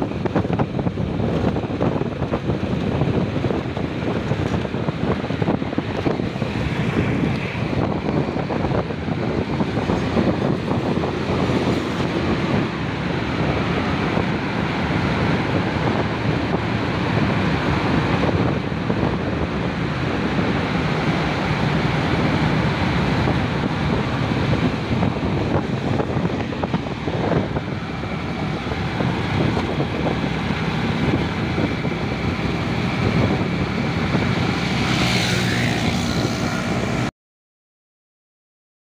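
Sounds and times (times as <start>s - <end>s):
motorcycle engine running: 0.0s - 37.1s
road noise: 0.0s - 37.1s
wind buffeting microphone: 0.0s - 37.1s.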